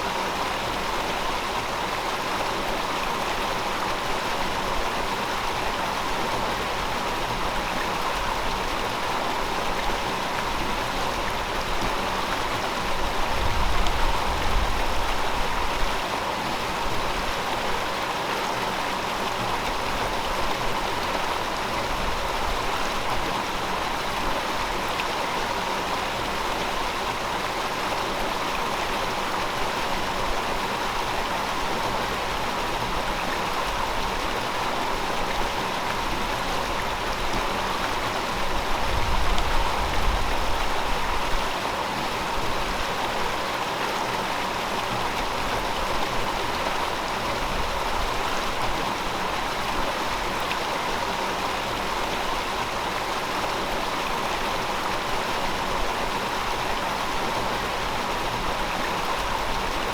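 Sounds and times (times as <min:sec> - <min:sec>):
river rushing: 0:00.0 - 0:59.9.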